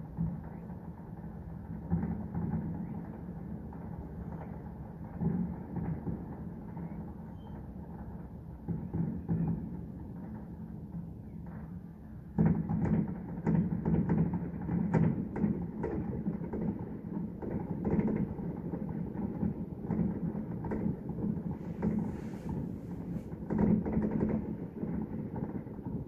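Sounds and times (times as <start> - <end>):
distant fireworks booming: 0.0 - 26.0.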